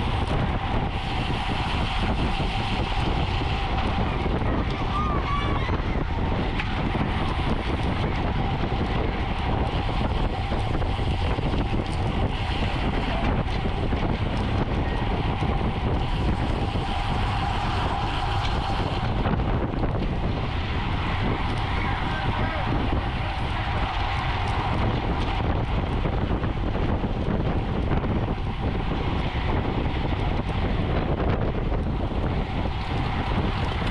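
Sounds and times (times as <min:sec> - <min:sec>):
road and tyre hum: 0:00.0 - 0:33.9
wind buffeting microphone: 0:00.0 - 0:33.9.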